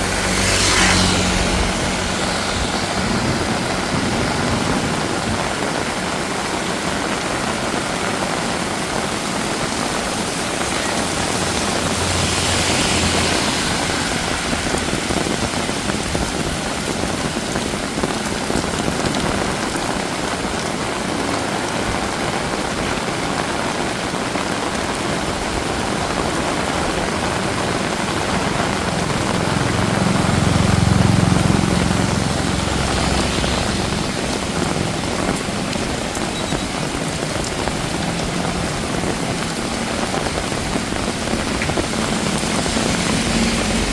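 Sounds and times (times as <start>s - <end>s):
passing vehicle engine rumble: 0.0s - 23.7s, 24.4s - 43.9s
heavy rain pouring: 0.0s - 43.9s.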